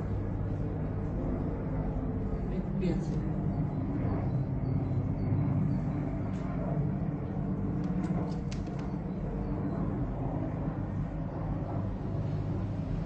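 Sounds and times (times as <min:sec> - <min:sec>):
helicopters droning: 0:00.0 - 0:13.0.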